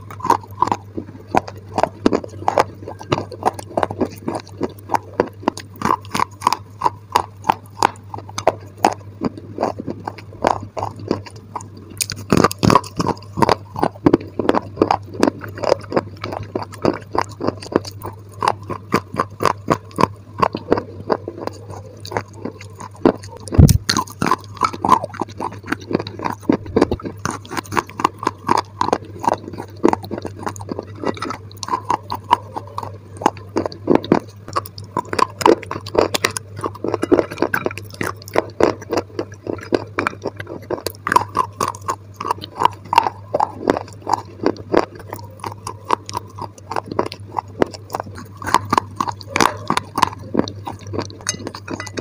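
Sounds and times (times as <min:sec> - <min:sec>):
chewing and crunching: 0:00.0 - 0:52.0
steady low hum: 0:00.0 - 0:52.0.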